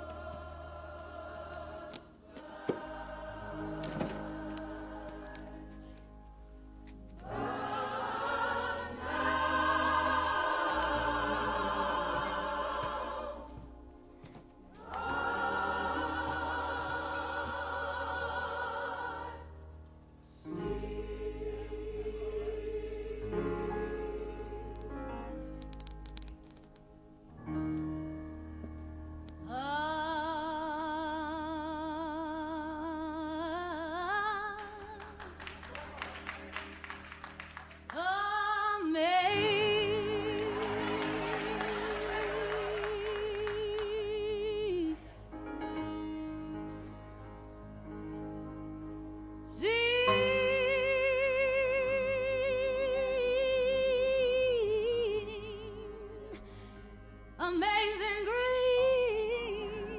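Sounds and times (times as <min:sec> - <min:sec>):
soft keyboard chords: 0:00.0 - 0:59.9.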